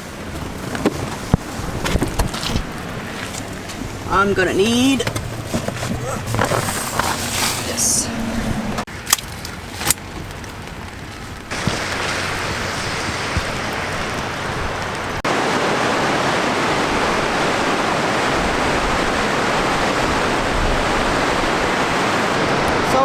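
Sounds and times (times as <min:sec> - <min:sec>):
turbulent water rushing: 0:00.0 - 0:09.0, 0:09.6 - 0:23.0.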